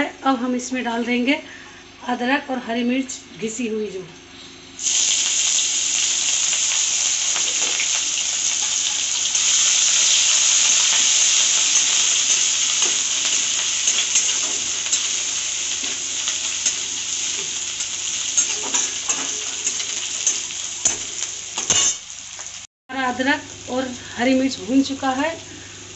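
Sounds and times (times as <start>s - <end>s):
food sizzling in oil: 4.8s - 25.9s.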